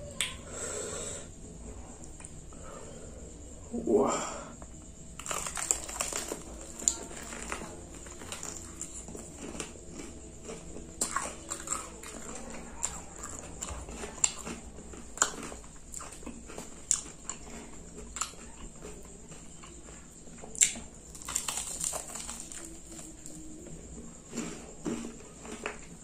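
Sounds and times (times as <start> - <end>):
chewing and lip-smacking: 5.2 - 26.0.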